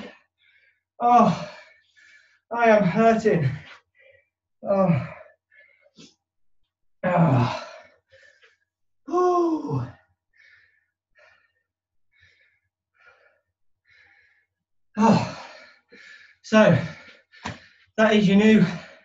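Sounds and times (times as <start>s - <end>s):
man panting: 0.0s - 6.1s, 7.1s - 8.6s, 9.2s - 19.0s.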